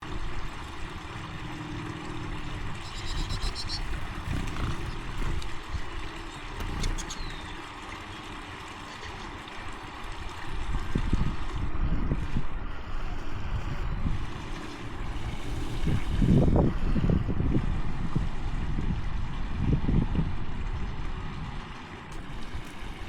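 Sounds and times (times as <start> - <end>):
wind buffeting microphone: 2.2 - 7.5, 9.4 - 23.0.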